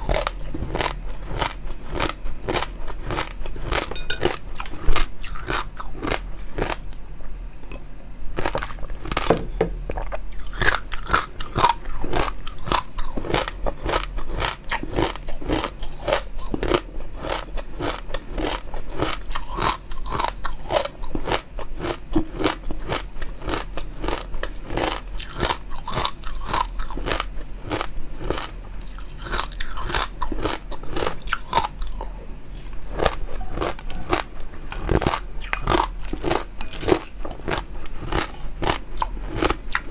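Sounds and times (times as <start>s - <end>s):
crunchy chewing: 0.0s - 7.0s, 8.4s - 39.9s.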